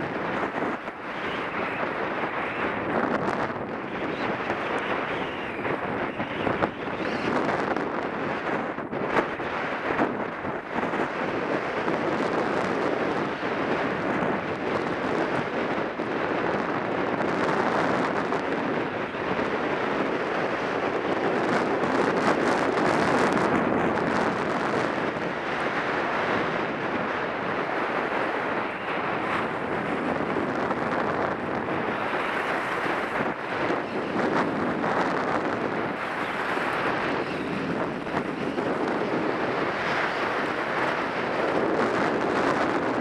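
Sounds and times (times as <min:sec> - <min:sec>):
wind on microphone: 0:00.0 - 0:43.0.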